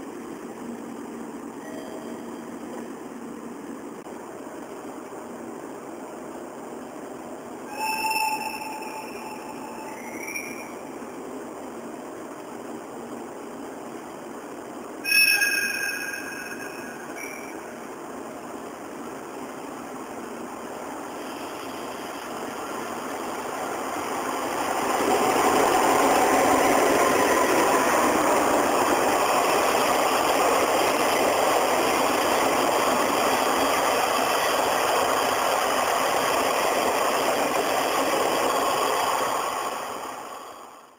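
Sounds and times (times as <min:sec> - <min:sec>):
train passing close by: 0:00.0 - 0:40.9.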